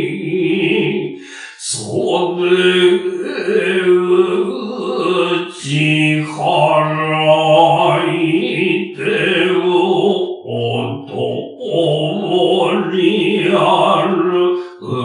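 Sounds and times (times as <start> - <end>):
voice chanting held notes: 0.0 - 15.0.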